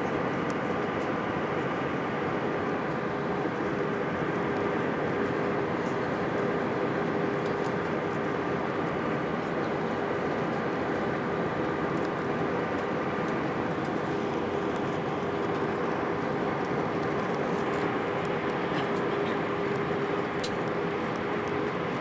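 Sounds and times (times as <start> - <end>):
jet airliner cabin noise: 0.0 - 22.0.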